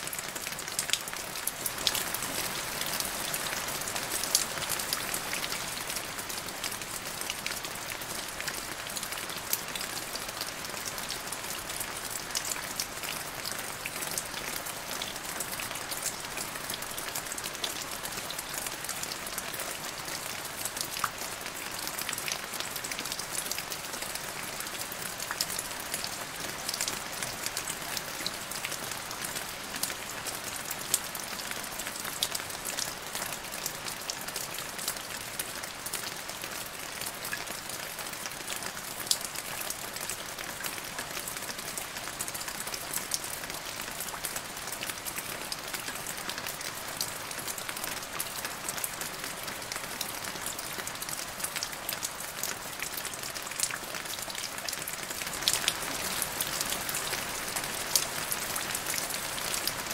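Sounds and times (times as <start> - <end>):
gentle rain hiss: 0.0 - 59.9.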